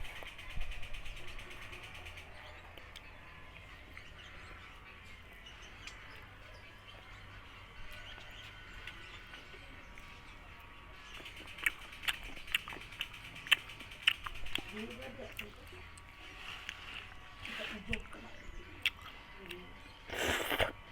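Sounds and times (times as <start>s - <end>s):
small eating clicks: 0.0s - 20.9s.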